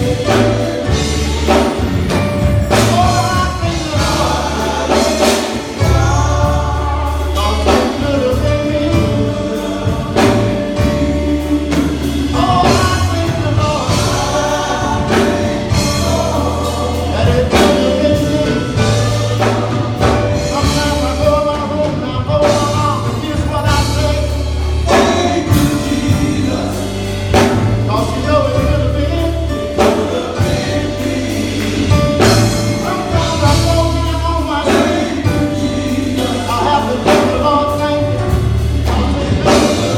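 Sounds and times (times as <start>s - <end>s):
band playing steady beat: 0.0s - 39.9s
gospel choir singing: 0.0s - 39.9s.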